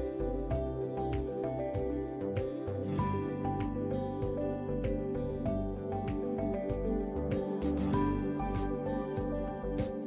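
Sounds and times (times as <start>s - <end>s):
background music with beat: 0.0s - 10.0s
plucked guitar: 0.0s - 10.0s.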